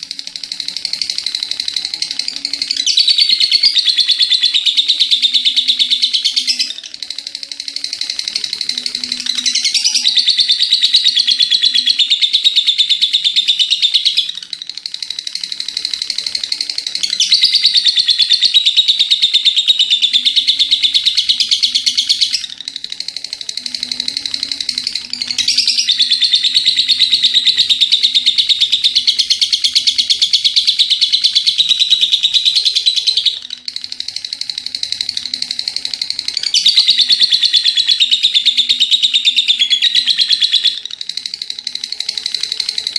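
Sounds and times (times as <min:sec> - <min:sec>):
lovebird chattering trills: 0:00.0 - 0:42.9.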